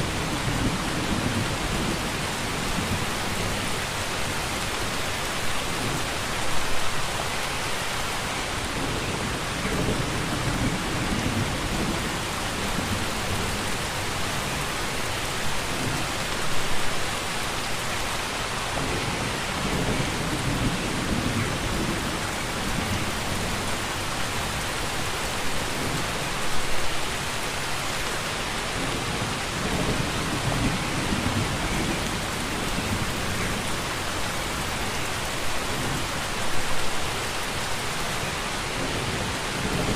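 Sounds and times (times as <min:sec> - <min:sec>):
heavy rainfall hiss: 0:00.0 - 0:39.9.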